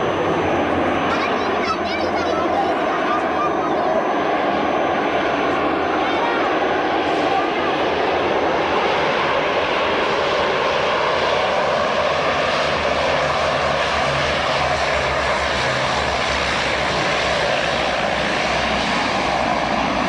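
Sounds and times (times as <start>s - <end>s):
propeller engines droning: 0.0s - 20.0s.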